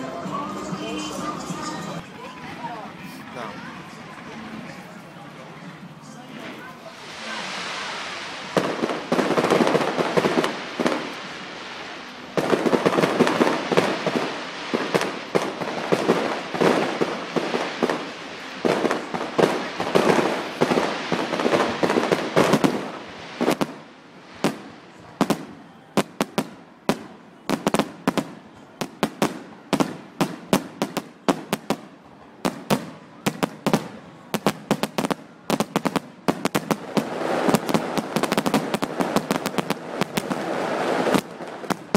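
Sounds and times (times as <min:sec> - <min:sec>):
fireworks bangs and crackling: 0:06.3 - 0:41.9
sharp firework cracks: 0:07.2 - 0:41.9.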